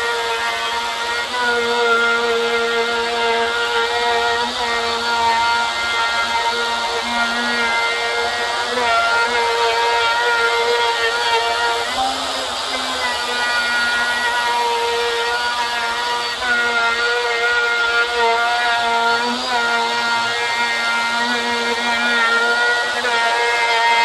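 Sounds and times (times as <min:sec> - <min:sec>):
router motor whine: 0:00.0 - 0:24.0.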